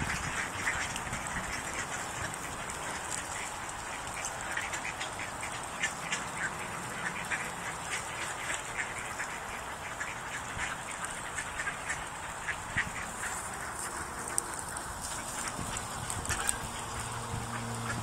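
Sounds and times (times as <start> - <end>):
ducks and geese quacking: 0.0 - 18.0.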